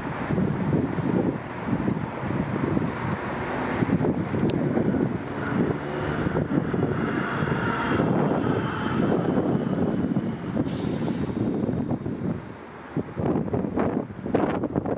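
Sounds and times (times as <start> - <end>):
bus driving past: 0.0 - 14.7
wind buffeting microphone: 0.0 - 14.9.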